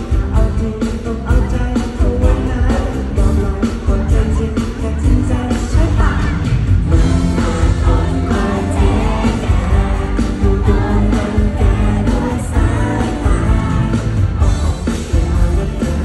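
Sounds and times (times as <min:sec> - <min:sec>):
live pop song over sound system: 0:00.0 - 0:16.0.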